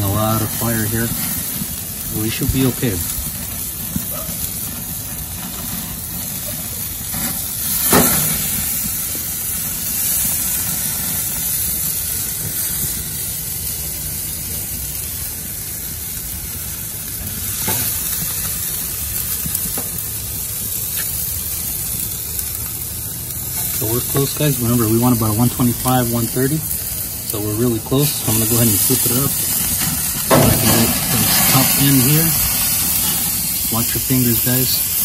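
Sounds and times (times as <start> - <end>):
steak sizzling on grill: 0.0 - 35.0.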